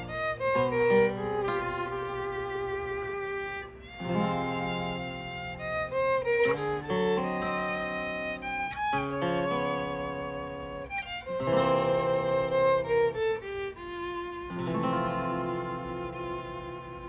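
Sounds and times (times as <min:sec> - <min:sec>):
sustained accompanying chords: 0:00.0 - 0:17.0
violin playing long notes: 0:00.0 - 0:17.0.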